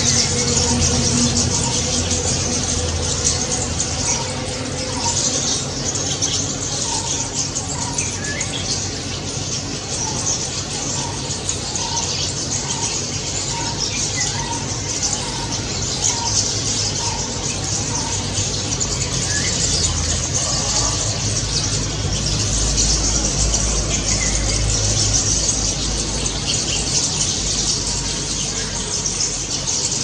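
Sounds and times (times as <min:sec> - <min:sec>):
starlings chirping: 0:00.0 - 0:30.0.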